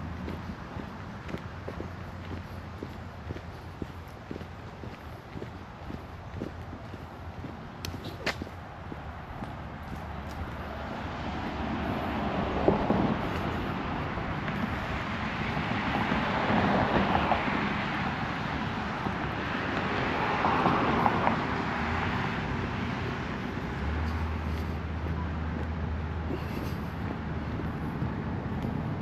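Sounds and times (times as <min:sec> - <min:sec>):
cars passing: 0:00.0 - 0:29.0
low engine hum: 0:00.0 - 0:29.0.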